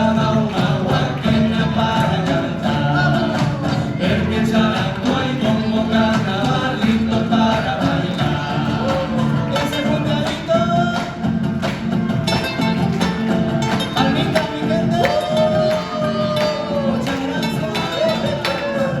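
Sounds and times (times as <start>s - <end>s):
person singing: 0.0s - 11.2s, 12.3s - 19.0s
percussion with steady beat: 0.0s - 19.0s
strummed strings: 0.0s - 19.0s.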